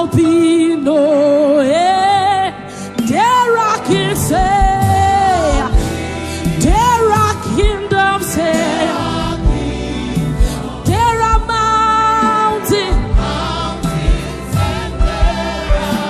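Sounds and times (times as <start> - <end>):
worship song singing: 0.0 - 16.0
instrumental backing with beat: 3.0 - 16.0.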